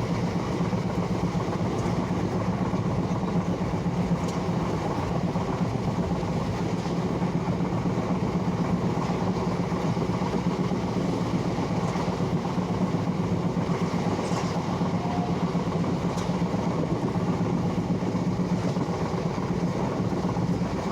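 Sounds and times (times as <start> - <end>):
train rumbling on rails: 0.0 - 20.9.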